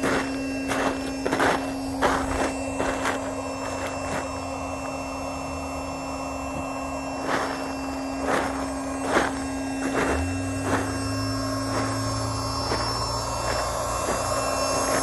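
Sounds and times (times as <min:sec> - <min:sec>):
electric air pump humming: 0:00.0 - 0:15.0.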